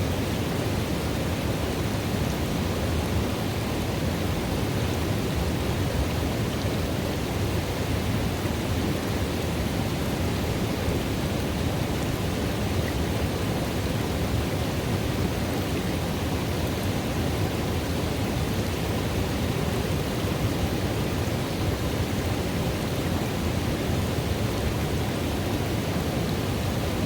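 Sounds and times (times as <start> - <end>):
running water in river: 0.0 - 27.0.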